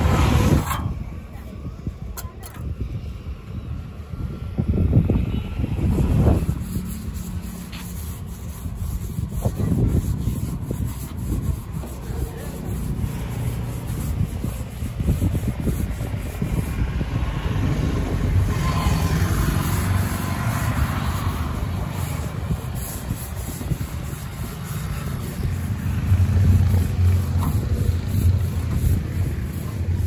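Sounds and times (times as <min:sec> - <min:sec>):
brush scraping steel mould: 0:00.0 - 0:02.7, 0:05.8 - 0:30.0.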